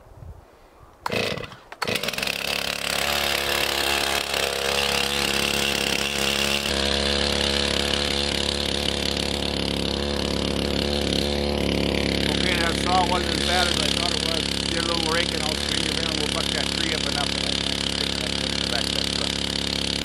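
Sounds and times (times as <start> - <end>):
chainsaw idling: 1.0 - 20.0
chainsaw pull cord: 1.0 - 20.0.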